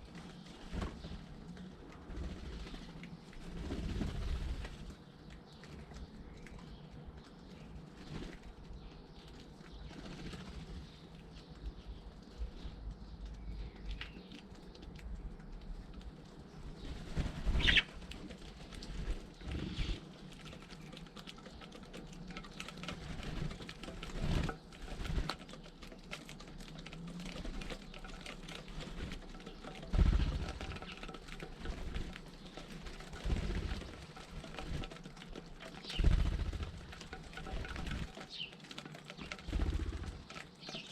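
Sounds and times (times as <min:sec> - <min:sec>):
birds pecking taps: 0:00.1 - 0:40.9.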